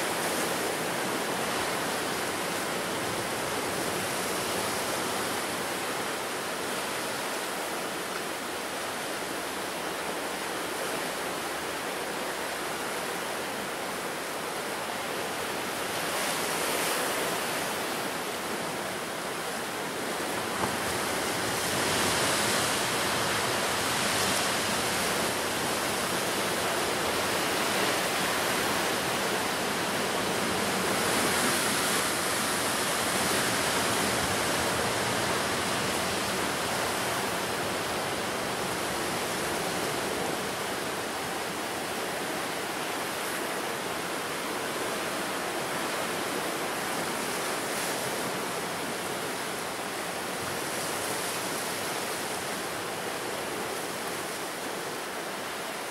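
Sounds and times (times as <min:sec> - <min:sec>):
ocean surf washing on shore: 0:00.0 - 0:55.9.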